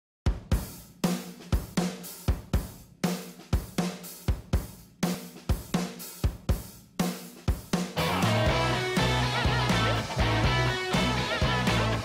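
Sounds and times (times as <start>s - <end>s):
drum kit beat: 0.3s - 12.0s.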